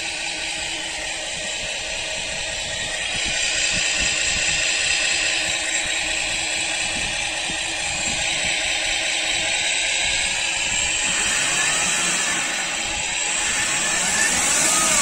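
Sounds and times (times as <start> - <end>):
simulated boat engine: 0.0 - 15.0.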